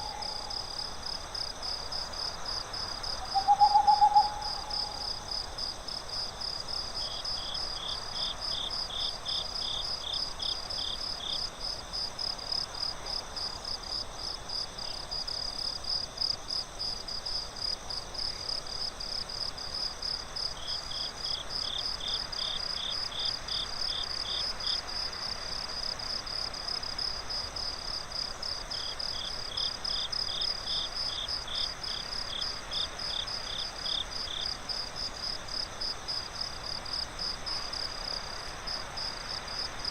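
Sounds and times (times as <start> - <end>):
crickets chirping: 0.0 - 39.9
forest ambience hiss: 0.0 - 39.9.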